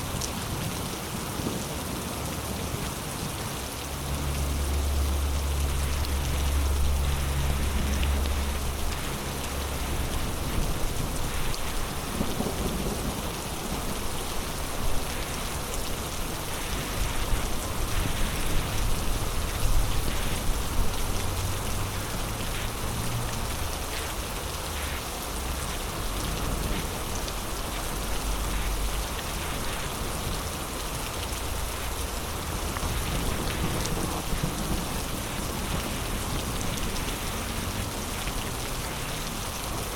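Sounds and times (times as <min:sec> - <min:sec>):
heavy rain: 0:00.0 - 0:39.9
thunder rumble: 0:03.9 - 0:39.0
sharp raindrop hits: 0:03.9 - 0:39.9.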